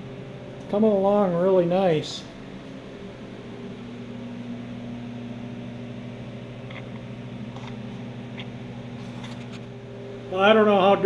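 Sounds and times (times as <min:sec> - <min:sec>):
fan hum and hiss: 0:00.0 - 0:11.0.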